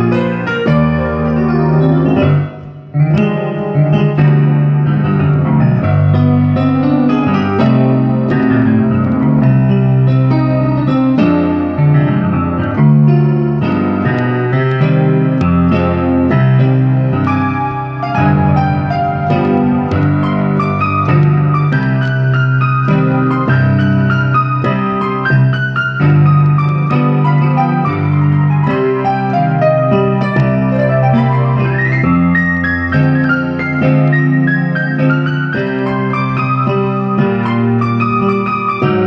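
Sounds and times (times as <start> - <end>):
electric piano keyboard melody: 0.0 - 39.0.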